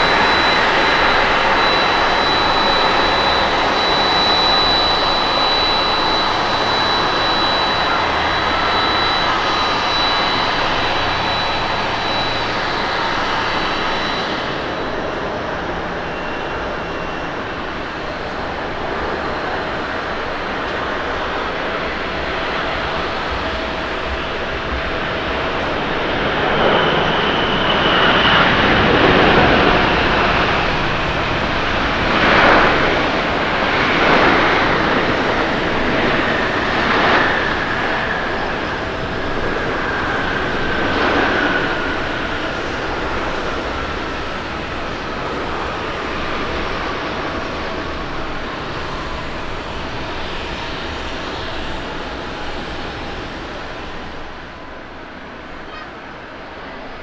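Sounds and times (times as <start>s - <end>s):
jet engines in reverse thrust: 0.0s - 57.0s.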